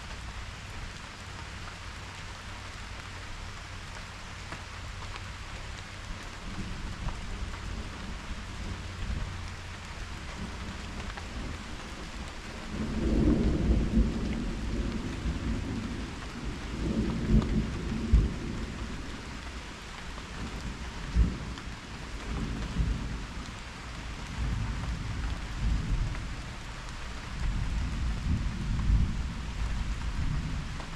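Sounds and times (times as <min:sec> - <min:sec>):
rain hissing: 0:00.0 - 0:30.9.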